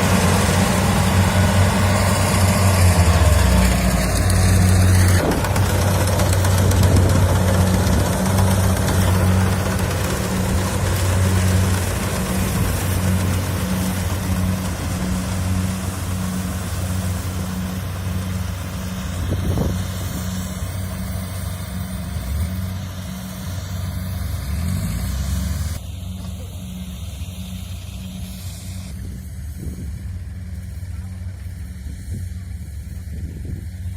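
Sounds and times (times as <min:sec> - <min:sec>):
diesel engine humming: 0:00.0 - 0:33.9
high-pitched machinery noise: 0:00.0 - 0:33.9.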